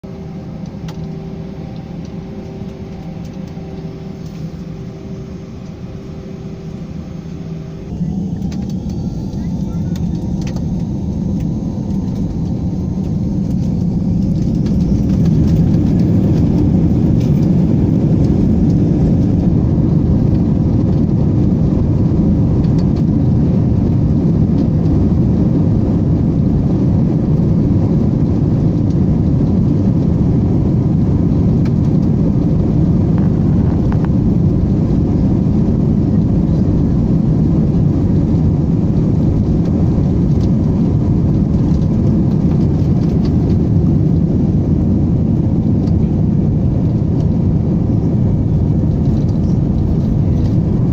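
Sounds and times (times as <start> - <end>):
jet engines taking off: 0.0 - 50.9.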